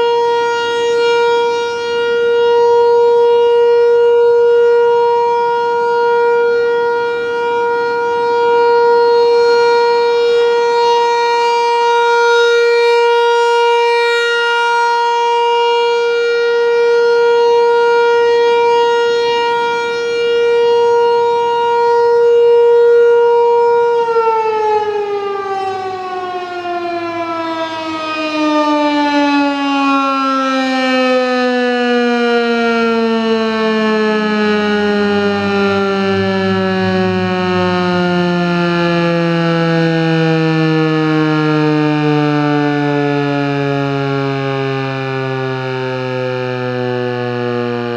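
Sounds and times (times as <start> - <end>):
rotating warning siren: 0.0 - 47.9.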